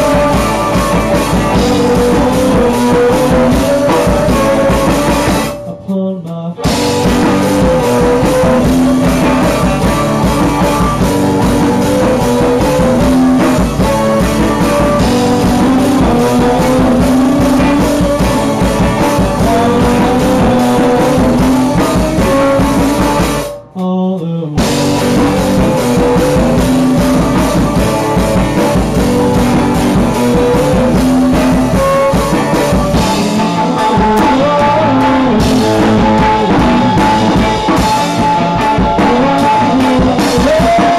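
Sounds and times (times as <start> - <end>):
drum kit with cymbals: 0.0 - 5.7, 6.6 - 23.6, 24.6 - 40.9
electric guitars: 0.0 - 5.9, 6.5 - 23.8, 24.6 - 40.9.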